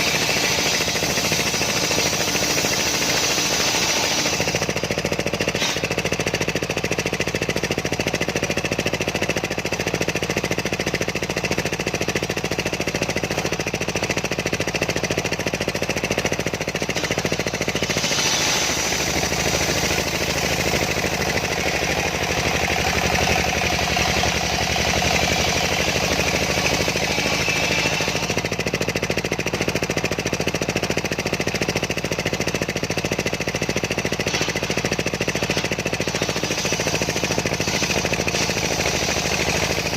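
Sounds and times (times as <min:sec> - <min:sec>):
circular sawmill cutting log: 0:00.0 - 0:39.9.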